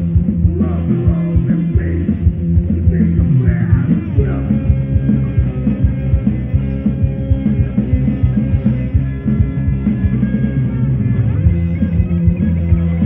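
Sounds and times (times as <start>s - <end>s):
dense drum beat: 0.0s - 13.0s
heavy metal band playing: 0.0s - 13.0s.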